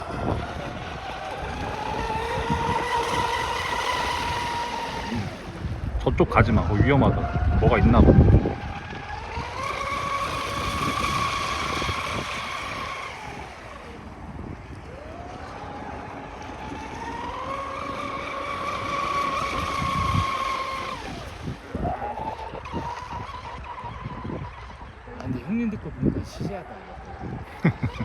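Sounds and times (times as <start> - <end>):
electric motor whining: 0.0 - 28.0.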